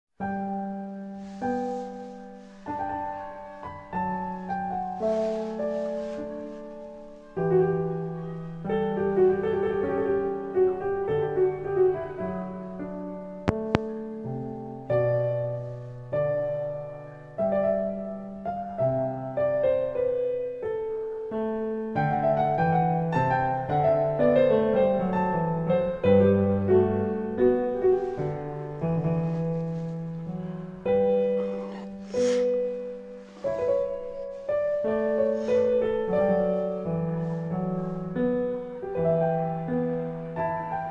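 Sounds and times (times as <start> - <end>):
gentle solo piano music: 0.2 - 40.9.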